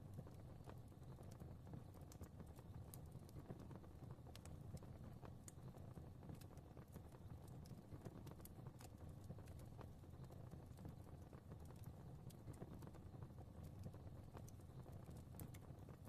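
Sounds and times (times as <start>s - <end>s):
fire crackling: 0.0s - 16.0s
low rumble of burning: 0.0s - 16.0s.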